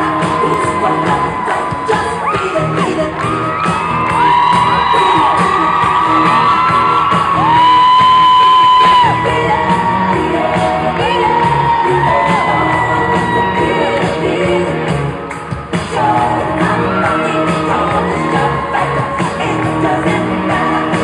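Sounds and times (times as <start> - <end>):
voices whooping and shouting: 0.0 - 14.2, 16.6 - 19.6
pop music over sound system: 0.0 - 21.0.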